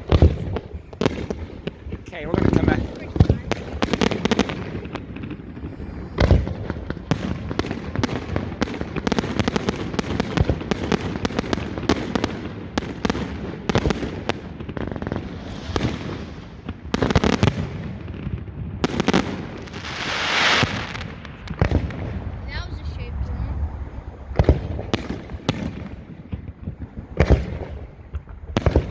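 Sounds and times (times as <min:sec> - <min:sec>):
fireworks bangs and crackles: 0:00.0 - 0:28.9
heavy firework booms: 0:00.0 - 0:28.9.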